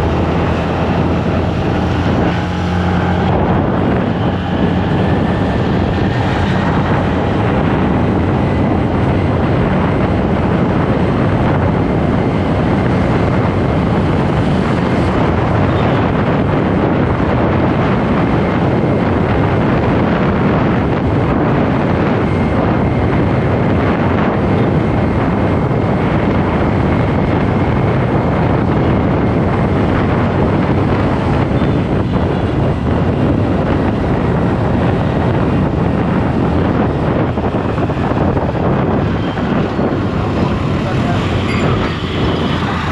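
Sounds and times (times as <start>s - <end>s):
motorcycle running: 0.0s - 42.9s
road noise: 0.0s - 42.9s
wind rush on microphone: 0.0s - 42.9s.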